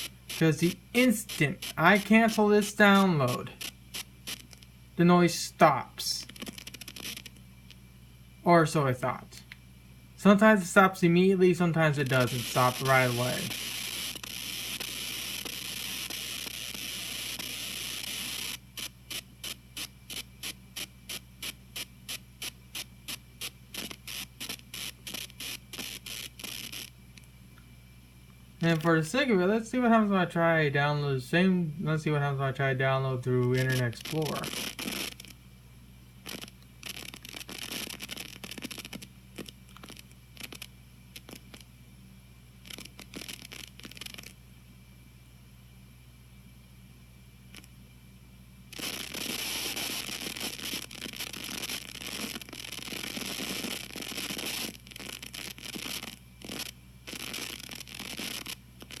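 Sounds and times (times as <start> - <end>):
electrical hiss in headphones: 0.0 - 45.8, 47.4 - 48.0, 48.6 - 59.0
steady low hum: 0.0 - 59.0.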